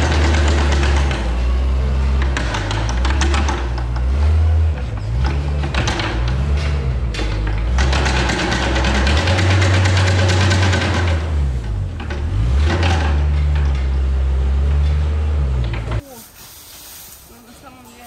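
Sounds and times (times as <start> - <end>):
loader engine running under load: 0.0 - 16.0.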